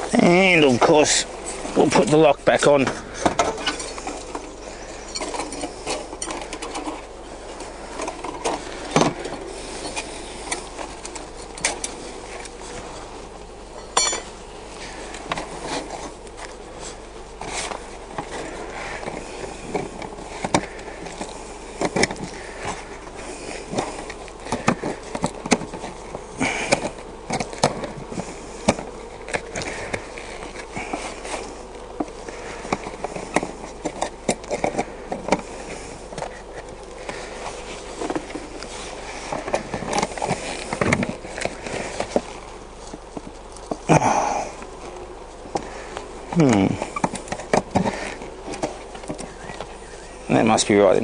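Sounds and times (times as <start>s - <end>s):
honey bees buzzing: 0.0s - 51.0s.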